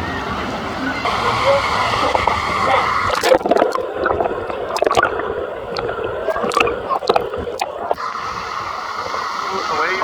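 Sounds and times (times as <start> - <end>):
water sloshing and gurgling: 1.0 - 9.3
sharp water splashes: 1.0 - 9.9.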